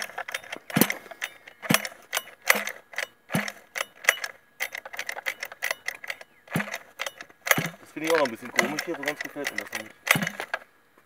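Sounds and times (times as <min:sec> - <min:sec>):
recoil starter rattling clicks: 0:00.0 - 0:10.7.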